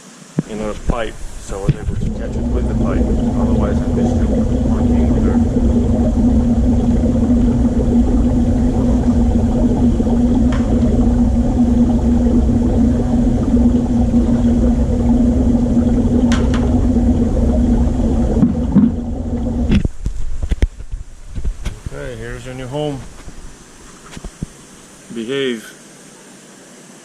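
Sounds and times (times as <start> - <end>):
aquarium equipment humming: 0.0 - 27.0.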